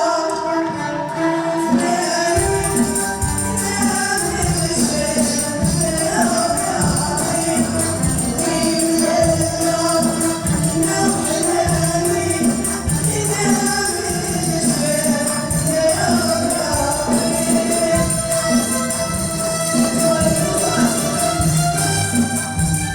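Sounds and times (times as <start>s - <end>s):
group of voices singing: 0.0s - 22.9s
tambourines beating: 1.7s - 22.9s.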